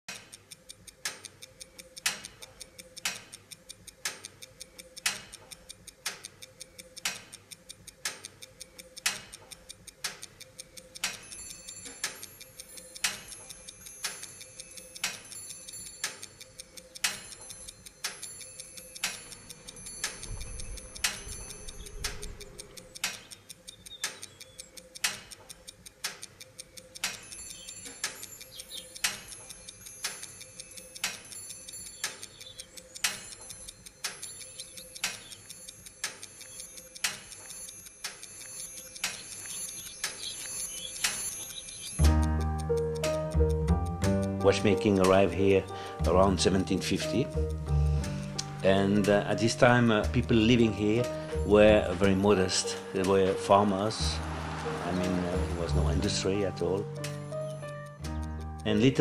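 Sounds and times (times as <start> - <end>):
clockwork ticking: 0.1 - 59.0.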